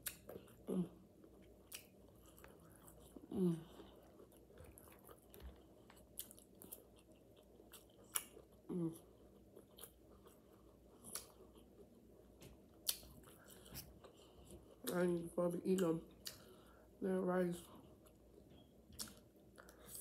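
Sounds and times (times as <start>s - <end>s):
mouth chewing food: 0.0s - 16.8s.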